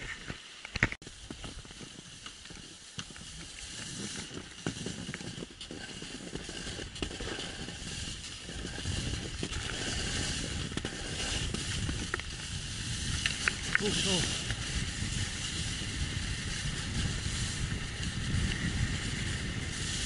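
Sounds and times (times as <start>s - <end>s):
scrapes and crunches on snow: 0.0s - 20.0s
wind rumbling on microphone: 0.0s - 20.0s
skis hissing on snow: 0.1s - 20.0s.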